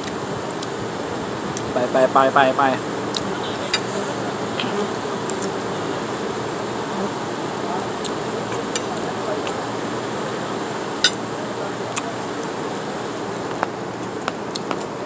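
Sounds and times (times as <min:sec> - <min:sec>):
outdoor background rush: 0:00.0 - 0:15.0.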